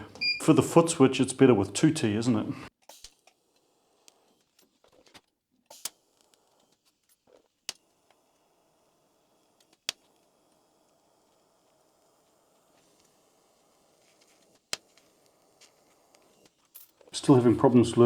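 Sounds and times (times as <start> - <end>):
welder hiss: 1.9 - 5.0, 5.7 - 18.0.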